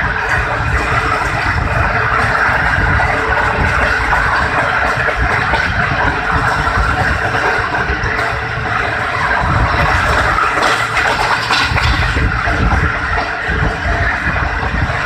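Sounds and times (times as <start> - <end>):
low rumbling: 0.0 - 15.0.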